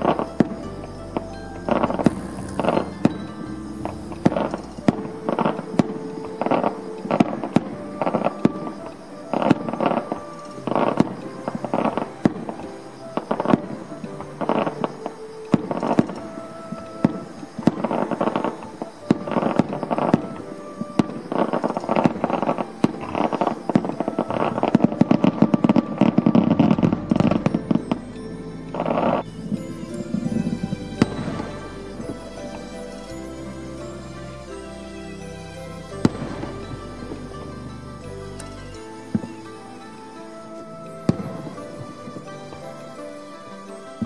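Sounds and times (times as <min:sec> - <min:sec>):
fireworks bursting: 0:00.0 - 0:44.0
music: 0:00.0 - 0:44.0.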